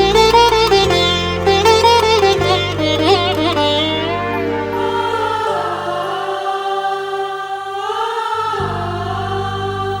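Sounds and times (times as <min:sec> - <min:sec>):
choir-like background music: 0:00.0 - 0:10.0.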